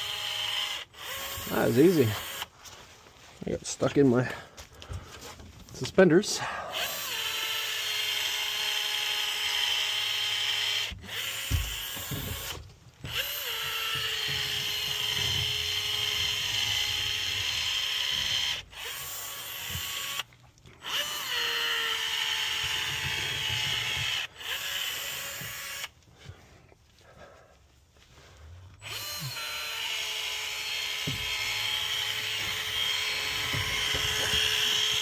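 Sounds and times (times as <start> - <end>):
caulking gun motor whining: 0.0 - 2.6, 6.7 - 26.0, 28.8 - 35.0.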